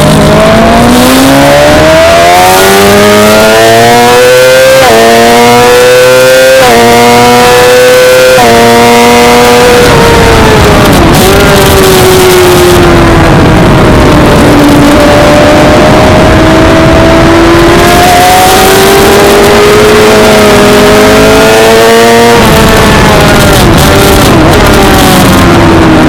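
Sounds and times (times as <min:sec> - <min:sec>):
sport bike engine revving: 0:00.0 - 0:26.0
wind noise: 0:00.0 - 0:26.0.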